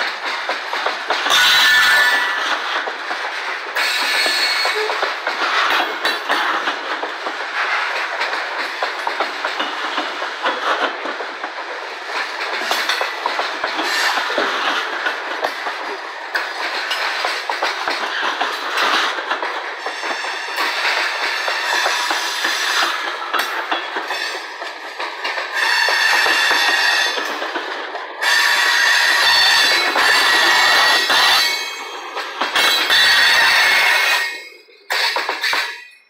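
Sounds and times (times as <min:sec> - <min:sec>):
freight train wheels clickety-clack: 0:00.0 - 0:36.0.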